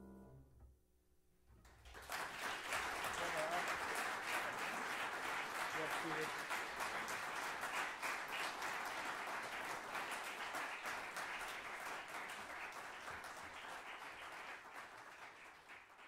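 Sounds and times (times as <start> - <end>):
audience applause: 1.8 - 16.0.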